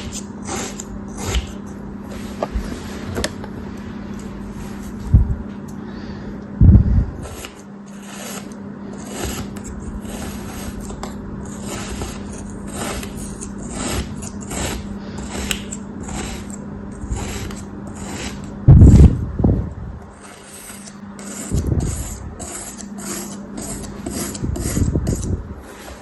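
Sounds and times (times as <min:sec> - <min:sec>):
low hum: 0:00.4 - 0:13.0, 0:13.6 - 0:26.0.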